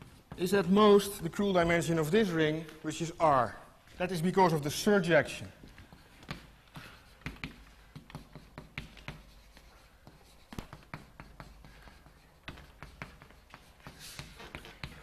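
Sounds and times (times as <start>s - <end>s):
chalk tapping and scratching: 0.0s - 3.1s, 4.0s - 15.0s.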